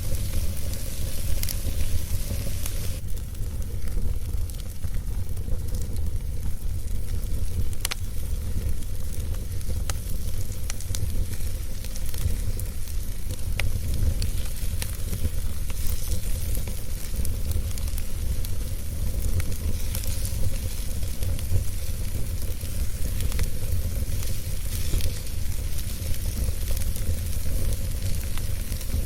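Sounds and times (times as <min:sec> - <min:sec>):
wood crackling and popping: 0:00.0 - 0:29.0
wood fire burning: 0:00.0 - 0:29.0.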